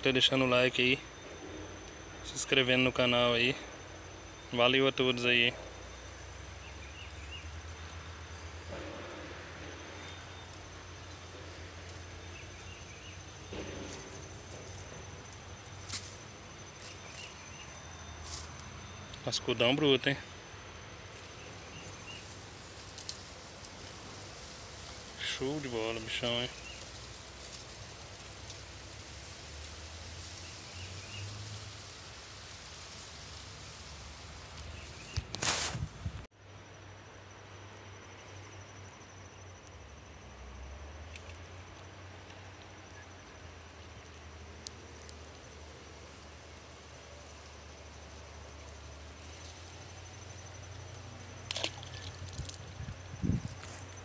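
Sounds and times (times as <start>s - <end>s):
high-pitched insect drone: 0.0s - 35.2s, 45.2s - 54.0s
faint chirps: 0.0s - 35.4s, 36.4s - 54.0s
even hiss: 0.0s - 54.0s.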